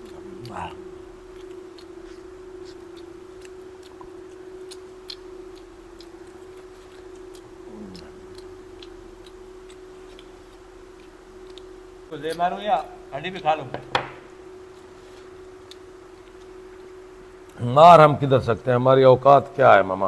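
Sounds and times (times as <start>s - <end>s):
man gnawing meat bone: 0.0s - 12.9s, 14.0s - 17.6s
steady low hum: 0.0s - 20.0s.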